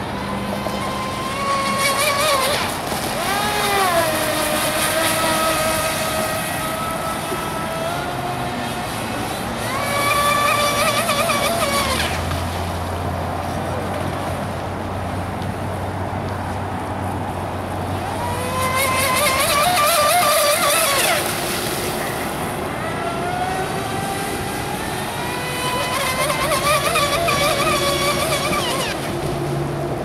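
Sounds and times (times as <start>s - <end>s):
rc speedboat motor whining: 0.0s - 13.8s, 17.4s - 30.0s.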